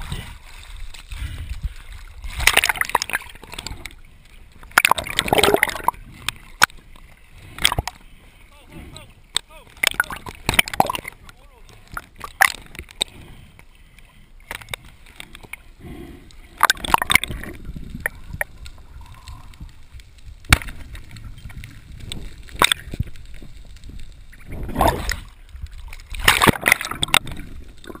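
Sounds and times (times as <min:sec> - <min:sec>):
water sloshing and gurgling: 0:00.0 - 0:28.0.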